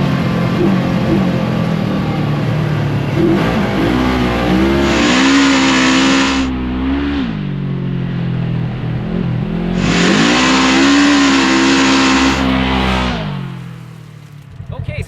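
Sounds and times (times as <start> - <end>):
engine revving under throttle: 0.0 - 14.6.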